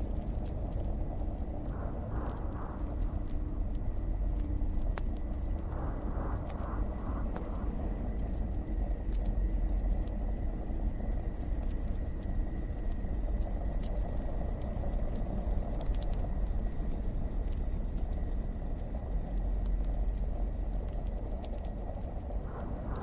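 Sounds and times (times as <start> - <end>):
fire pops and snaps: 0.0 - 23.0
high hiss with fine ticking: 0.0 - 23.0
low fire rumble: 0.0 - 23.0.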